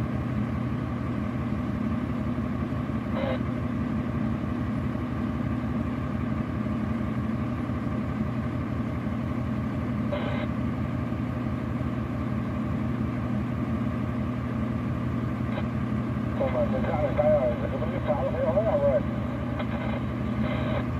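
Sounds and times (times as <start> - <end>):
truck engine idling: 0.0 - 20.9.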